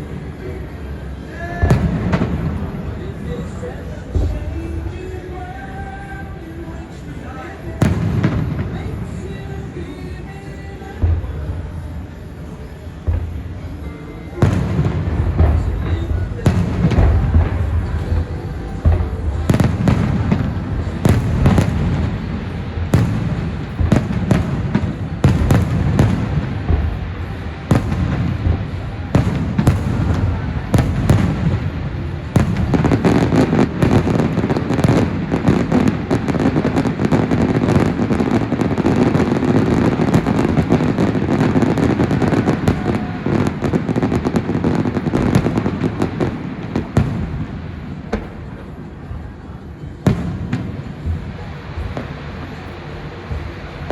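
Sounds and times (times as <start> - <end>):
faint music: 0.0 - 53.9
fireworks bursting: 0.0 - 53.9.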